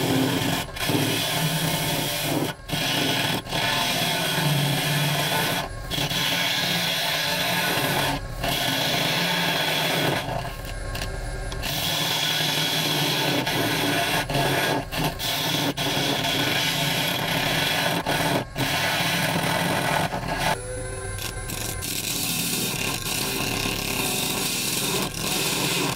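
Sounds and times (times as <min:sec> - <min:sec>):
lathe tool scraping wood: 0:00.0 - 0:25.9.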